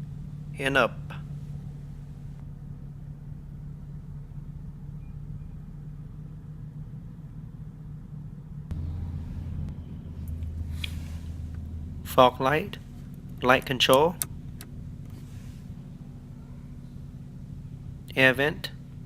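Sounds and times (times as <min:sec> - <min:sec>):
car cabin hum: 0:00.0 - 0:19.0
deeper hum: 0:00.0 - 0:19.0.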